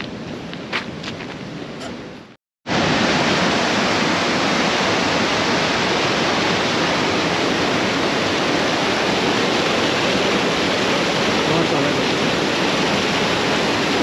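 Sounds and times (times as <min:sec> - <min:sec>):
stream water rushing: 0:02.7 - 0:14.0.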